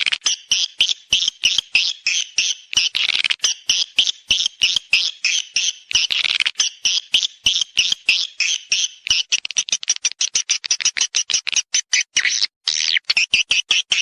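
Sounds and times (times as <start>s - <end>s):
high bird chirps: 0.0s - 14.0s.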